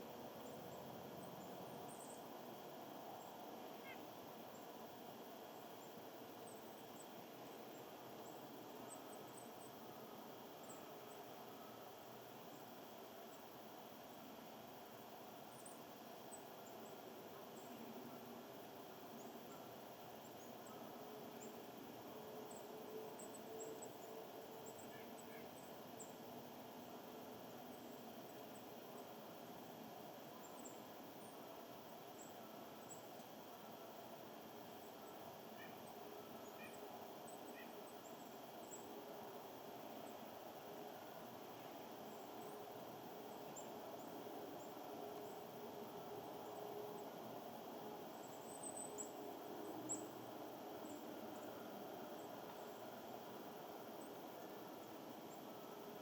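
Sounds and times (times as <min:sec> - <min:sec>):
small birds chirping: 0:00.0 - 0:14.2, 0:15.0 - 0:56.0
faint steady hum: 0:00.0 - 0:56.0
steady outdoor hiss: 0:00.0 - 0:56.0.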